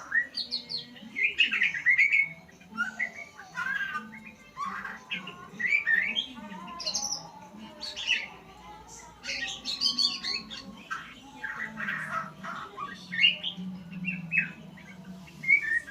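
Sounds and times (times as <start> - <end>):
songbird chirping and whistling: 0.0 - 15.9.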